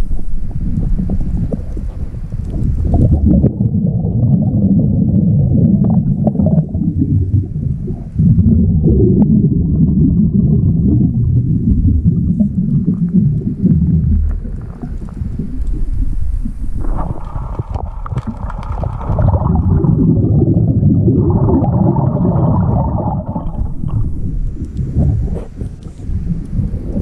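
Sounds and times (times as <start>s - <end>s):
underwater air bubbles gurgling: 0.0s - 27.0s.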